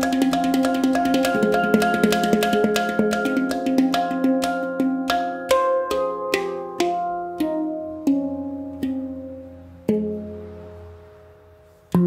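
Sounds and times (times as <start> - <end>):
handpan notes ringing: 0.0 - 12.0.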